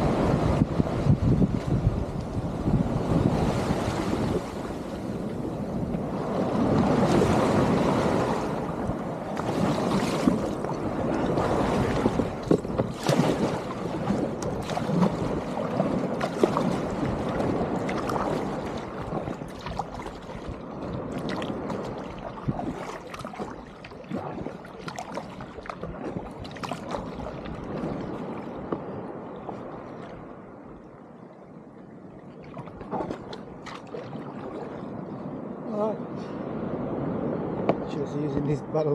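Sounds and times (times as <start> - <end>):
paddle splashing through water: 0.0 - 30.7, 32.2 - 35.1
sea water rushing and foaming: 0.0 - 38.9.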